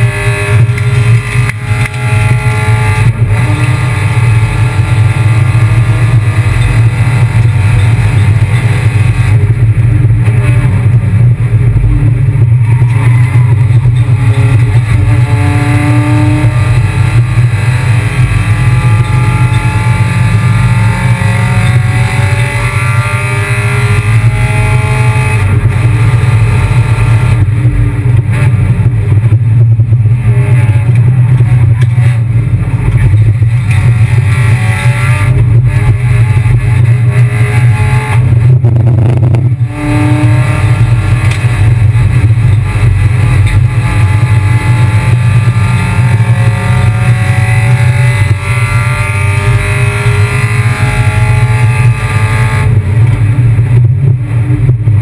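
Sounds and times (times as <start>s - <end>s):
heavy low drone: 0.0s - 55.0s
race car engine revving: 0.0s - 55.0s.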